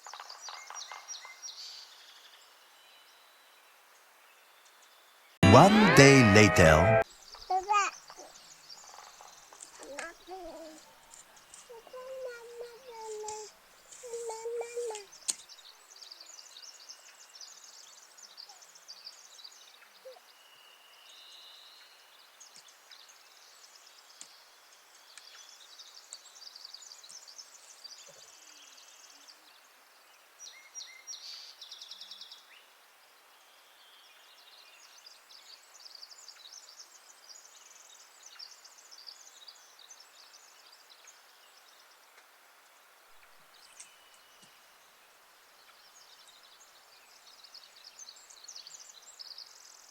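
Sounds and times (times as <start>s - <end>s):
small birds chirping: 7.2s - 49.9s
steady background hiss: 8.4s - 49.9s.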